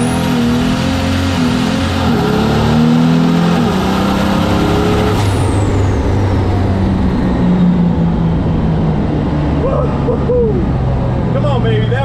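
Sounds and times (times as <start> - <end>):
diesel truck engine: 0.0 - 12.0.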